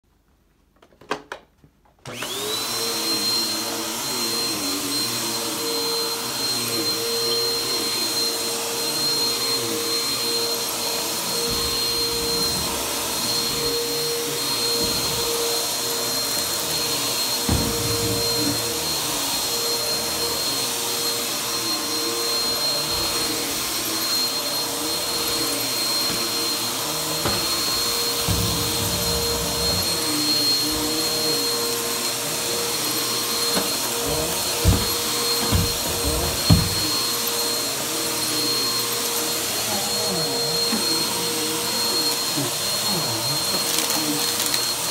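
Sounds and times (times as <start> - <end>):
vacuum cleaner motor whine: 2.0 - 44.9.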